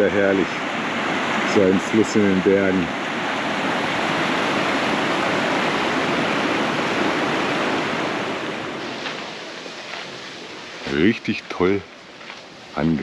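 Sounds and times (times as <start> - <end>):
river rushing over boulders: 0.0 - 13.0.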